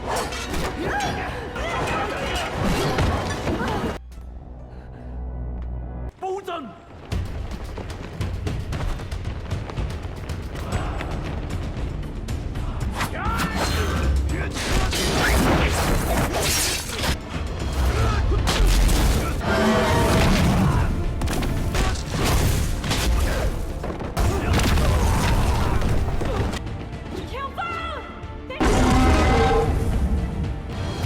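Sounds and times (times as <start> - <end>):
dramatic music: 0.0 - 6.2, 6.8 - 31.0.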